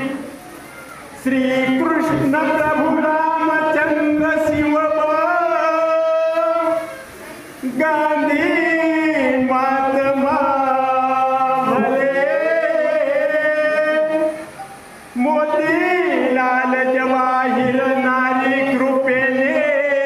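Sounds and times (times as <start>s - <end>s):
person chanting a hymn: 0.0s - 0.4s, 1.2s - 20.0s.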